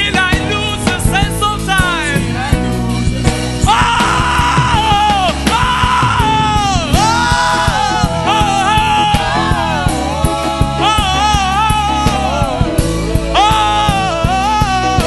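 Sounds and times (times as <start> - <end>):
gospel band with drums and bass: 0.0 - 15.0.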